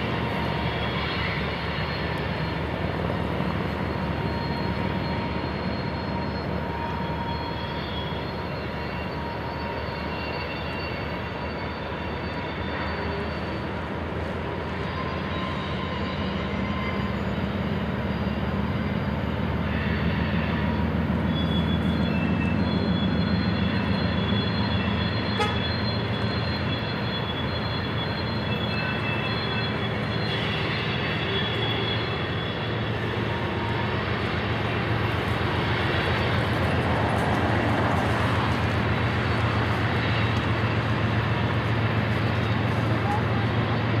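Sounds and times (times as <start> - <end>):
freight train rumbling over bridge: 0.0 - 44.0.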